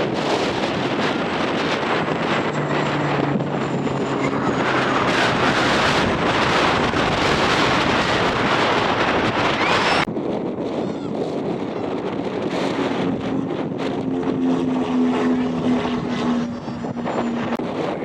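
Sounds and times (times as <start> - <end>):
aircraft engine: 0.0 - 18.0
wind buffeting microphone: 0.0 - 18.0.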